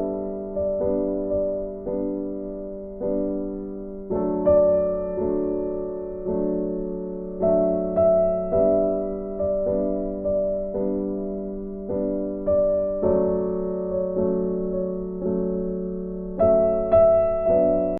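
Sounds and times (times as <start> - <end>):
soft piano chords: 0.0 - 17.9.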